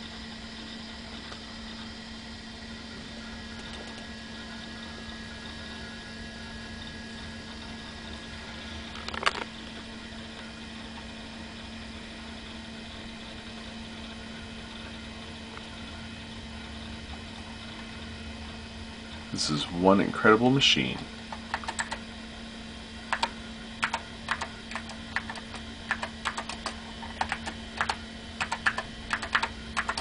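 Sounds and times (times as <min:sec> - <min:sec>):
computer fan and drive hum: 0:00.0 - 0:30.0.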